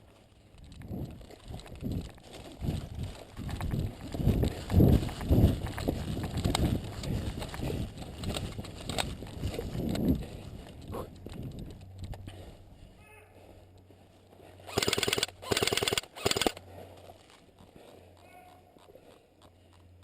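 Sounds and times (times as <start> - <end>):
clicks and rustle: 0.0 - 12.4, 14.7 - 20.0
quick footsteps on rough ground: 0.0 - 20.0.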